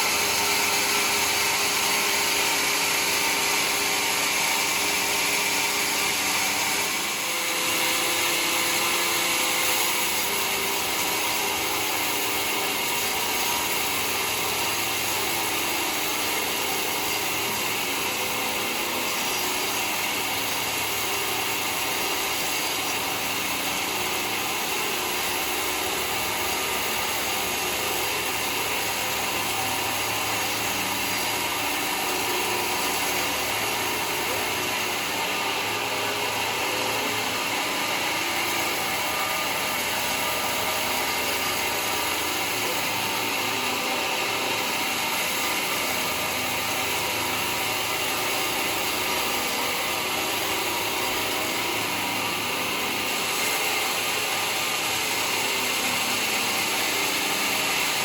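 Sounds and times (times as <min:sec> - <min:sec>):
sawmill blade cutting wood: 0:00.0 - 0:58.0.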